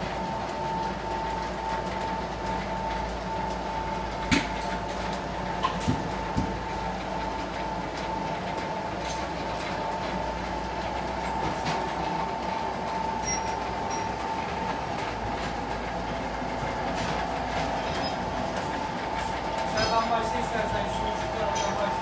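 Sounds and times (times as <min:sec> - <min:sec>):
vehicle lift whine: 0:00.0 - 0:22.0.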